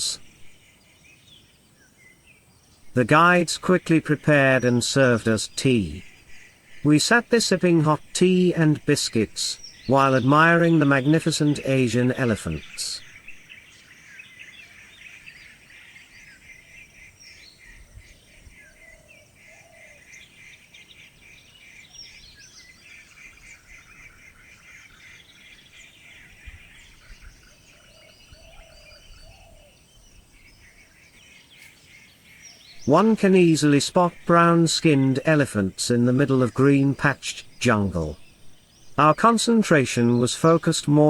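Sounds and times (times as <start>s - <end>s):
birds chirping and calling: 0.0s - 41.0s
low warbling bird calls: 0.0s - 41.0s.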